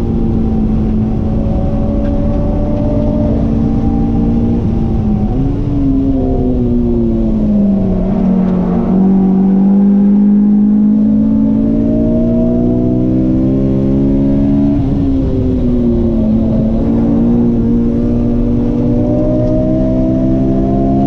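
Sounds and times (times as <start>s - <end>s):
car engine accelerating and slowing: 0.0s - 21.0s.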